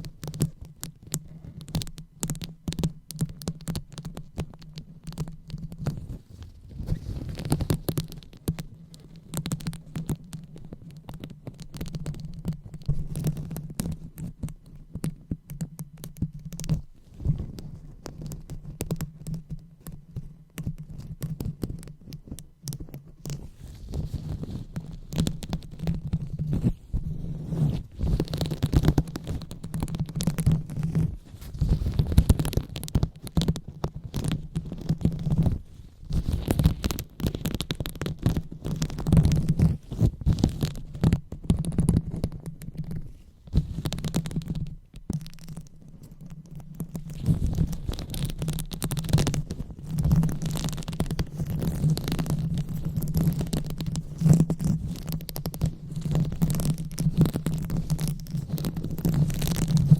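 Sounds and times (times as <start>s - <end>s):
hands rubbing on microphone: 0.0s - 59.9s.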